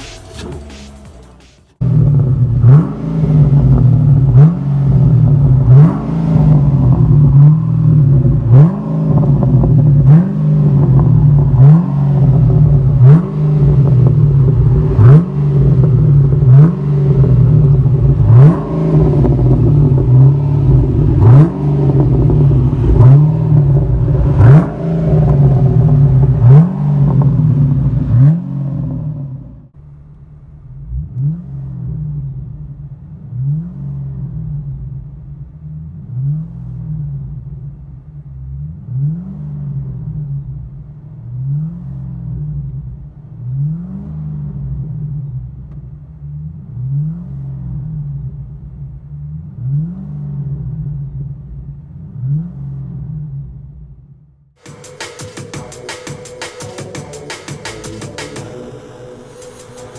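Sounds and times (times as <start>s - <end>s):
car engine idling: 0.0s - 59.9s
car engine revving: 0.0s - 59.9s.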